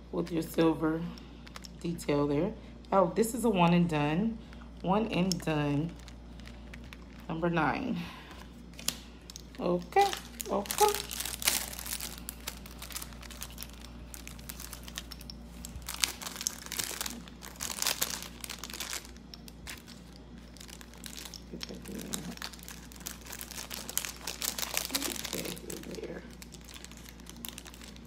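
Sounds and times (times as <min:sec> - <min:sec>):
plastic packaging crinkling: 0:01.4 - 0:01.8, 0:04.4 - 0:28.0.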